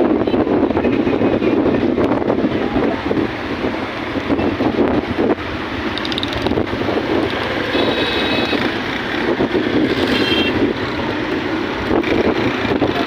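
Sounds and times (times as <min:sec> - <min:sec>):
wind buffeting microphone: 0:00.0 - 0:13.0
vehicles moving through water: 0:01.8 - 0:13.0.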